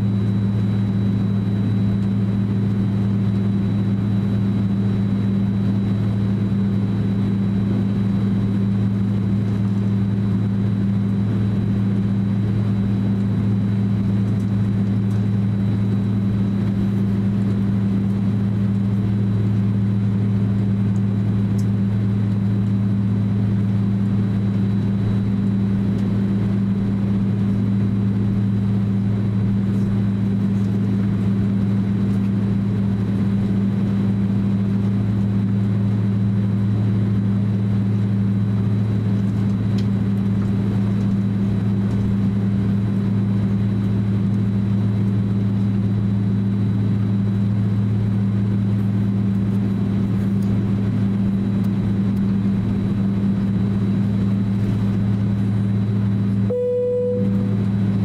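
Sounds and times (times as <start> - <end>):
faint high engine whine: 0.0 - 58.0
jet engines low hum: 0.0 - 58.0.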